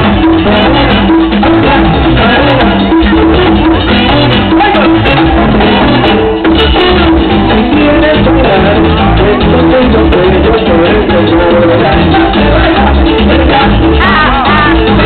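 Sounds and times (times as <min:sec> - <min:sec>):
hand drums: 0:00.0 - 0:15.0
live band playing: 0:00.0 - 0:15.0.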